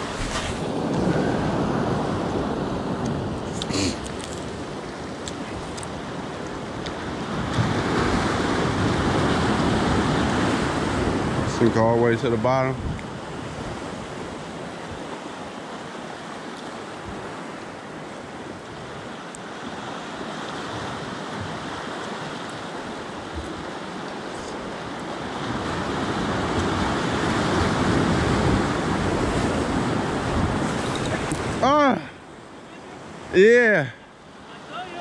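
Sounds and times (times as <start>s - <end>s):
ocean surf breaking on rocks: 0.0s - 35.0s.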